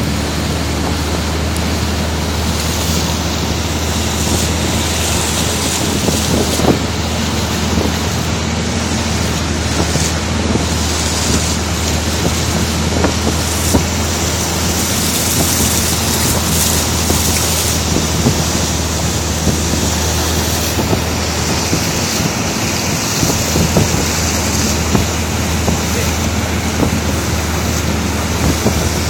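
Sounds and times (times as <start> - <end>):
boat engine humming: 0.0 - 29.0
water rushing: 0.0 - 29.0
wind buffeting microphone: 0.0 - 29.0.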